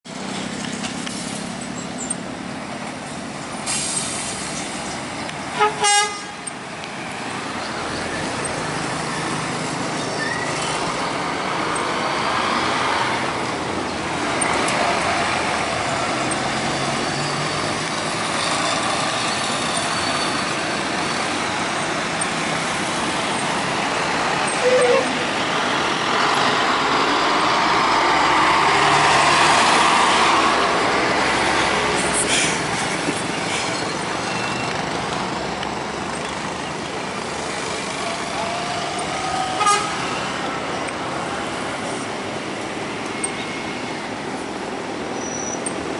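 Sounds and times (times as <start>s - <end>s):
truck passing close: 0.1s - 45.9s.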